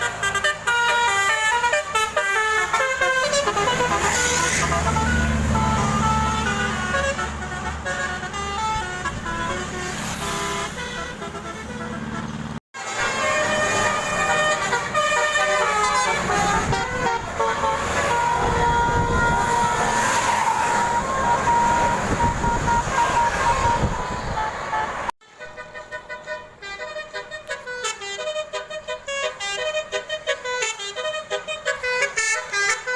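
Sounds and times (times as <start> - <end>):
musical bus horn: 0.0 - 32.9
vehicle noise: 0.0 - 32.9.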